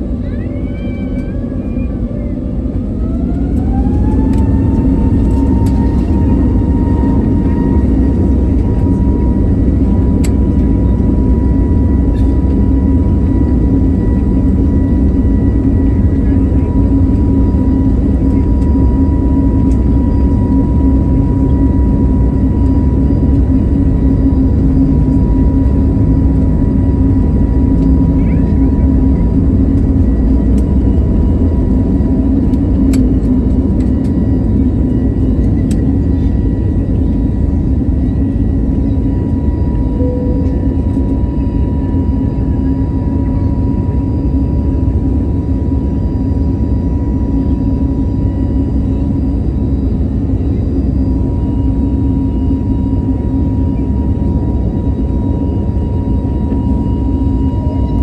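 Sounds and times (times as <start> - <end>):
jet engine drone with whine: 0.0 - 58.0.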